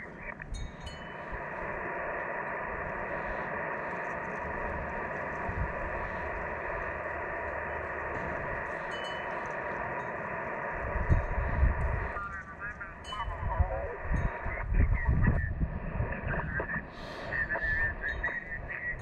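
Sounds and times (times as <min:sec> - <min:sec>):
faint steady tones: 0:00.0 - 0:19.0
radio static hiss: 0:00.0 - 0:19.0.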